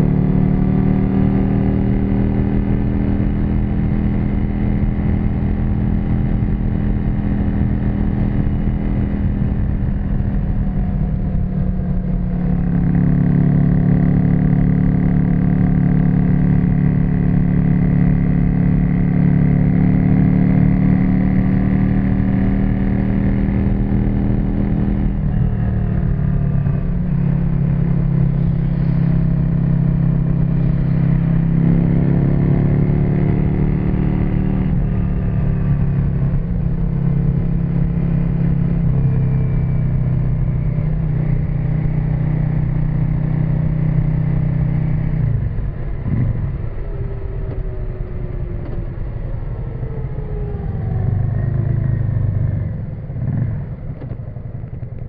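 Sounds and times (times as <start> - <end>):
motorcycle engine while riding: 0.0 - 55.0.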